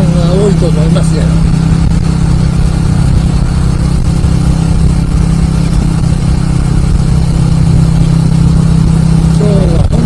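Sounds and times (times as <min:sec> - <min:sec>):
motorcycle engine drone: 0:00.0 - 0:10.0
wind noise on microphone: 0:00.0 - 0:10.0.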